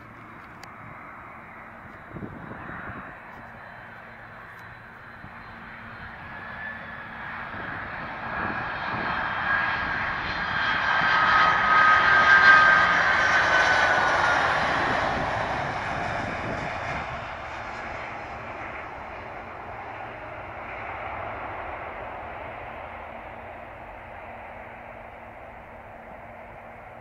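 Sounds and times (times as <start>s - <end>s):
jet engines rushing and whining: 0.0s - 27.0s.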